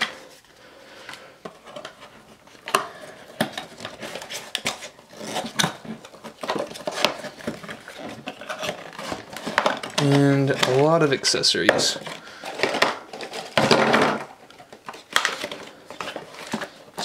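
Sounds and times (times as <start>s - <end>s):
plastic packaging rustling: 0.0s - 17.0s
plastic parts clicking and rattling: 1.1s - 17.0s.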